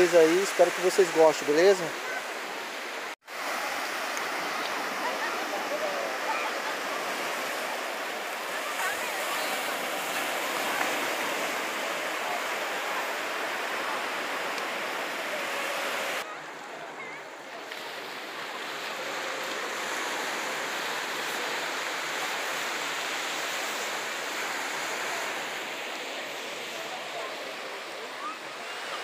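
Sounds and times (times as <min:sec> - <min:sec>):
surf breaking on beach: 0:00.0 - 0:29.0.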